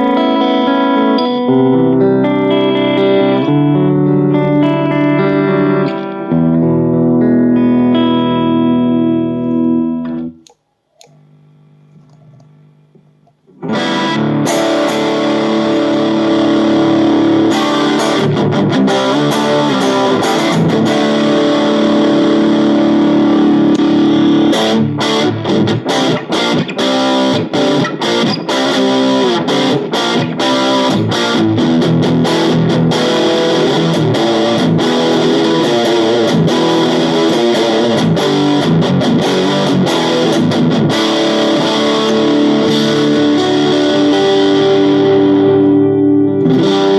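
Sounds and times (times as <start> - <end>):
distorted electric guitar chords: 0.0 - 46.9.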